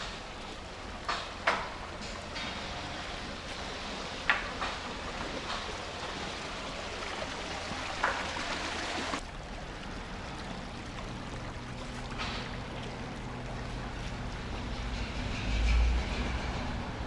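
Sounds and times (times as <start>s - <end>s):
water running down concrete canal: 0.0s - 17.0s.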